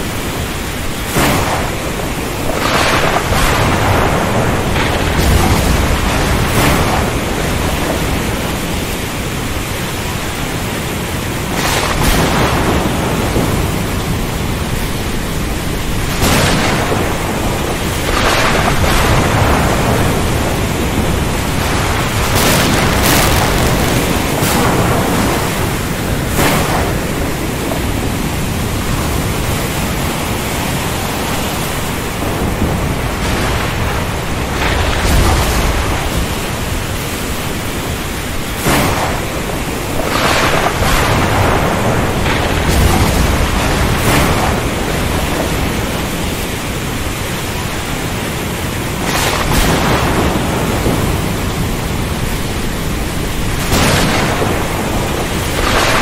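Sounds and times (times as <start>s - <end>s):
heavy rain: 0.0s - 56.0s
rolling thunder rumbles: 0.0s - 56.0s
surf: 0.0s - 56.0s
sharp thunder cracks: 1.0s - 9.3s, 11.4s - 30.0s, 32.0s - 37.5s, 38.5s - 46.4s, 49.0s - 56.0s.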